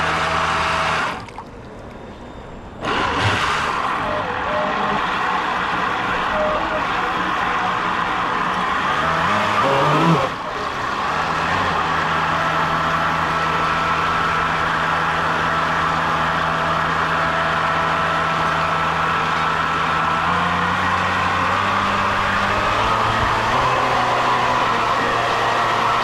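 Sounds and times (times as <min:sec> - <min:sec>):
boat motor humming and whining: 0:00.0 - 0:26.0.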